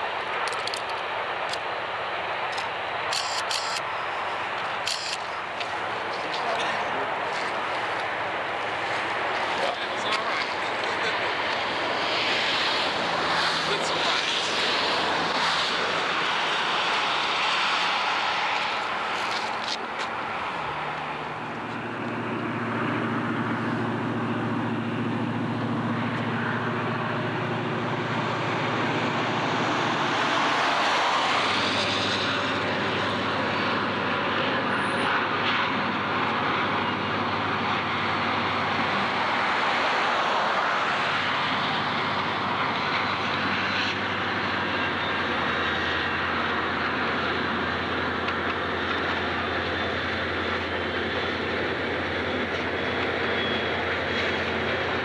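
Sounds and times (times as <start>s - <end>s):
rushing noise: 0.0s - 55.0s
vehicle engine drone: 0.0s - 55.0s.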